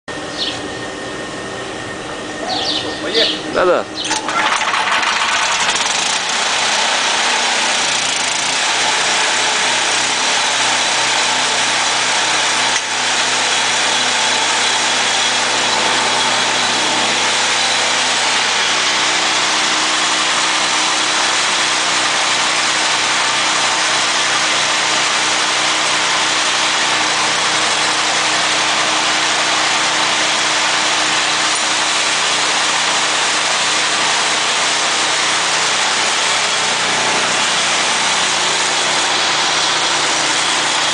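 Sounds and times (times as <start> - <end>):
petrol engine running loudly: 0.1 - 40.9.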